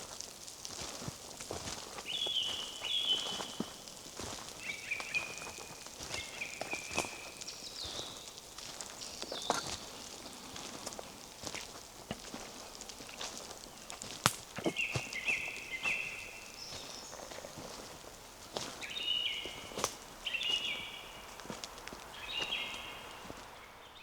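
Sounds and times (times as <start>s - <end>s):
footsteps on forest path: 0.0s - 24.0s.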